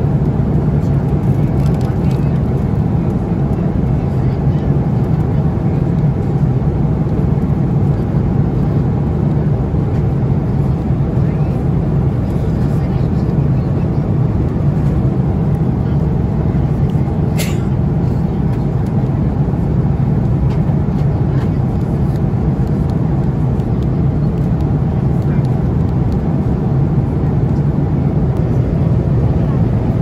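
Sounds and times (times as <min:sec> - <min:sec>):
aircraft cabin engine drone: 0:00.0 - 0:30.0.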